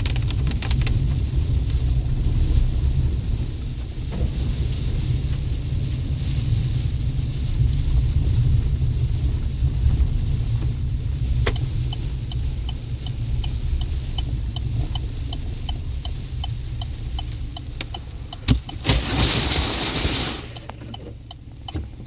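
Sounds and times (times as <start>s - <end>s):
light steady ticking: 0.0s - 18.9s, 20.5s - 22.0s
truck engine rumble: 0.0s - 22.0s.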